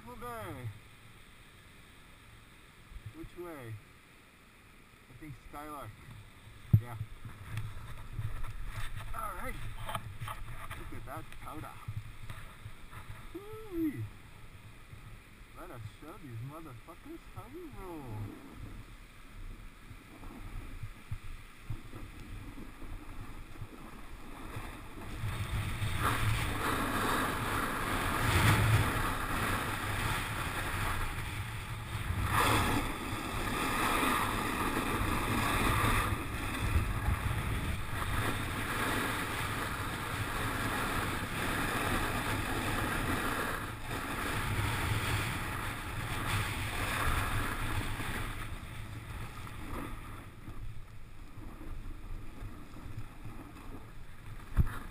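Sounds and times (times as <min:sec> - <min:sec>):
snowboard scraping over snow: 0:05.3 - 0:54.9
wind on microphone: 0:06.5 - 0:54.9.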